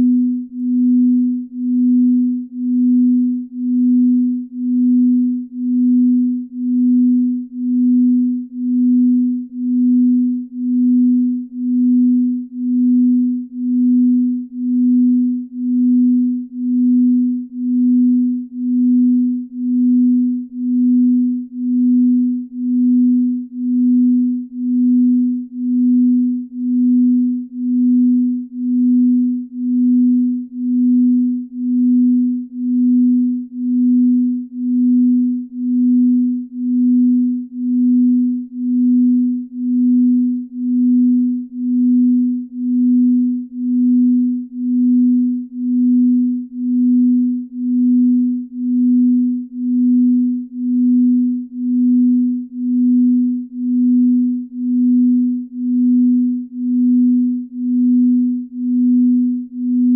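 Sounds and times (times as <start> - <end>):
low pulsing pure tone: 0.0 - 59.9.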